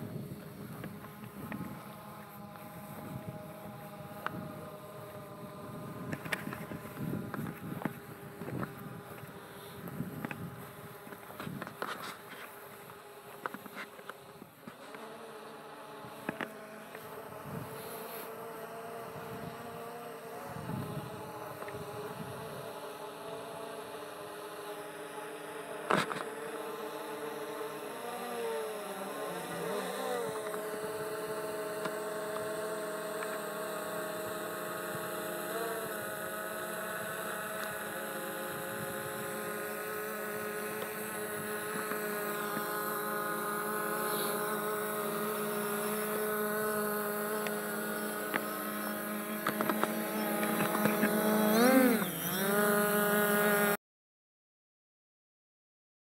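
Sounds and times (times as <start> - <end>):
drone propellers humming: 0.0 - 53.8.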